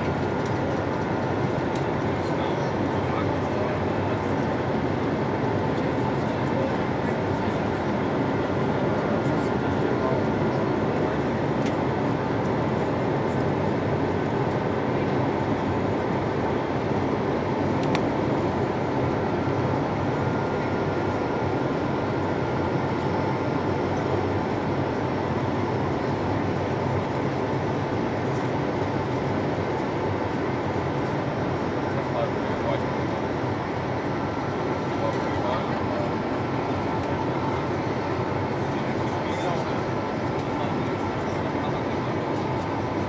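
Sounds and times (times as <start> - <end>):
airplane cabin noise: 0.0 - 43.0.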